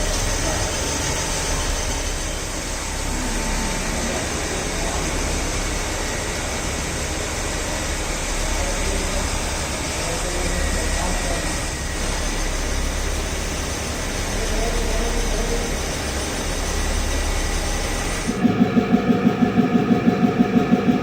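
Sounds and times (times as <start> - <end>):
boring machine humming: 0.0 - 21.0.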